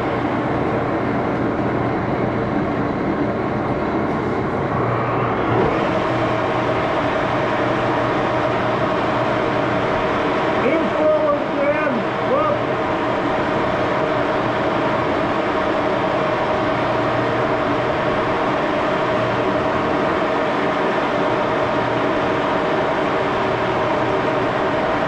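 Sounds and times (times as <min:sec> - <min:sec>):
lathe running with gear hum: 0:00.0 - 0:25.0.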